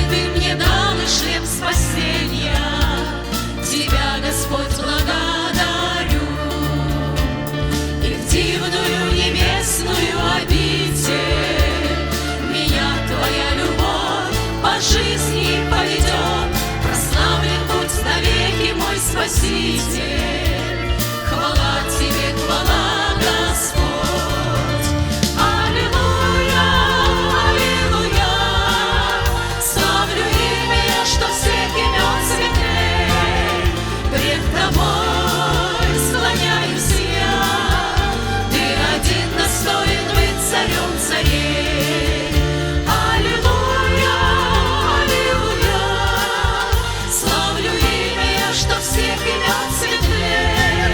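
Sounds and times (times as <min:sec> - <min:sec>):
live band with drums: 0:00.0 - 0:50.9
vocal group singing worship song: 0:00.0 - 0:50.9.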